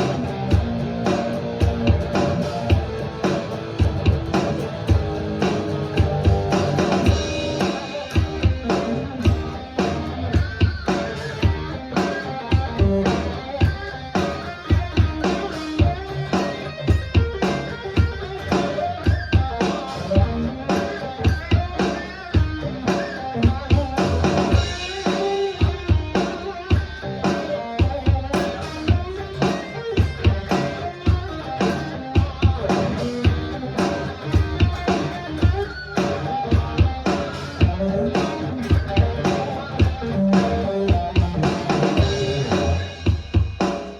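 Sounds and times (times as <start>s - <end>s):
drum kit beat: 0.0s - 43.9s
guitar music: 0.0s - 43.9s.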